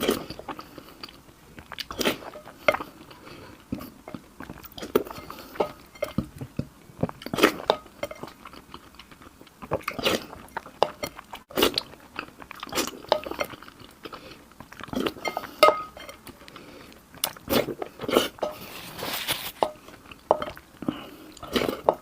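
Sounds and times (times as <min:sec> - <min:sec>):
crunchy eating and chewing: 0:00.0 - 0:22.0.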